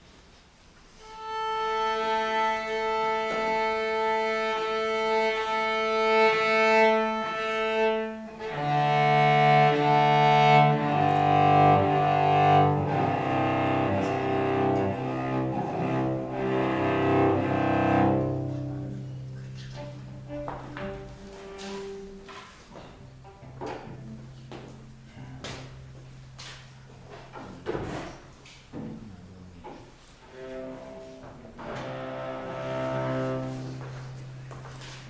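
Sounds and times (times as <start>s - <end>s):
piano quartet chamber music: 1.2s - 27.6s, 28.9s - 34.8s.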